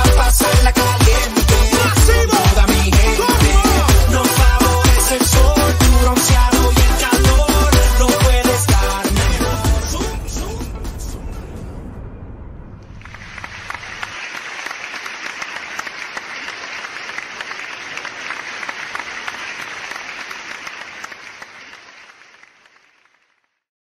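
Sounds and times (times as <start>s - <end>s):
crowd applauding: 0.0s - 9.2s, 13.0s - 23.6s.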